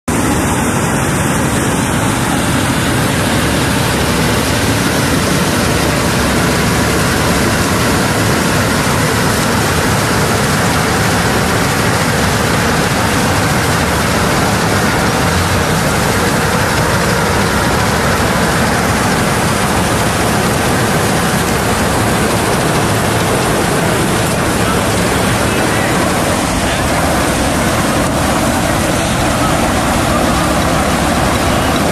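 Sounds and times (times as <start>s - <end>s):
combine harvester running: 0.1s - 31.9s.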